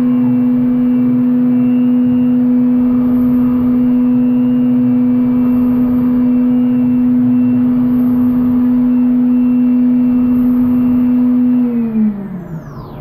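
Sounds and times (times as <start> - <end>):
machine spindle humming: 0.0 - 13.0.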